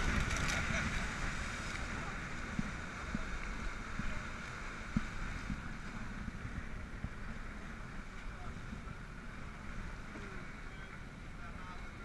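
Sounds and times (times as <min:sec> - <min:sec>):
speedboat rushing over water: 0:00.0 - 0:12.0.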